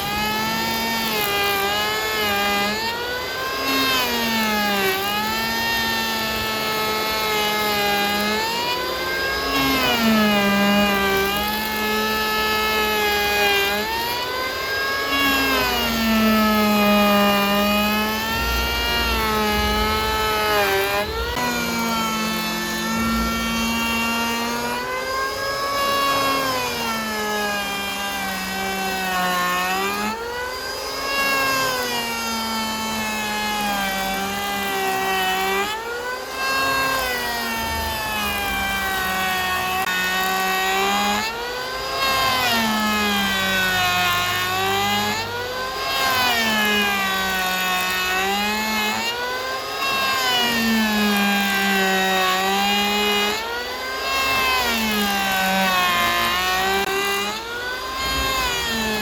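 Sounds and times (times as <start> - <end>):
engine-driven wood saw running: 0.0 - 59.0.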